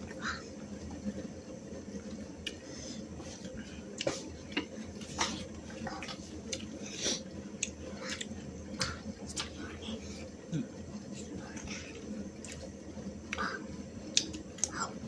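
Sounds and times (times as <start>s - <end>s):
people chewing and eating: 2.0s - 15.0s.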